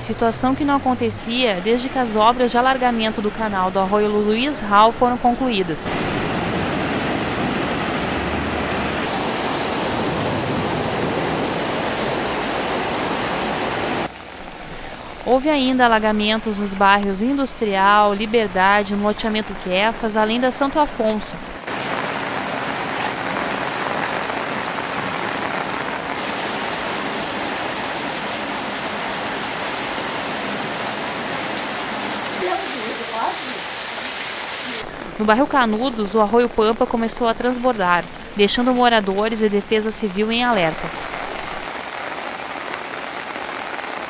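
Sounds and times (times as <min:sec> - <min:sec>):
heavy rain pouring: 0:00.0 - 0:44.0
loud rushing floodwater: 0:00.5 - 0:44.0.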